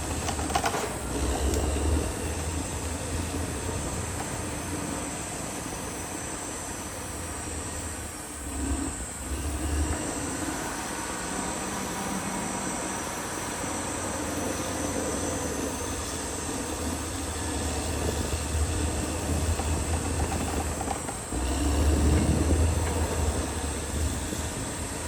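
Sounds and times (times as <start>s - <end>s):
track clatter: 0.0s - 8.0s, 8.6s - 25.0s
bulldozer diesel engine rumbling: 0.0s - 25.0s.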